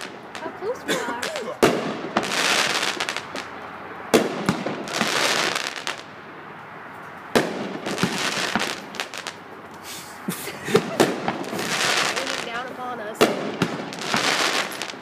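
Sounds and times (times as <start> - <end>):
fireworks bangs: 0.0 - 6.2, 7.3 - 9.5, 10.3 - 15.0
fireworks crackling and hiss: 0.0 - 6.2, 7.4 - 15.0.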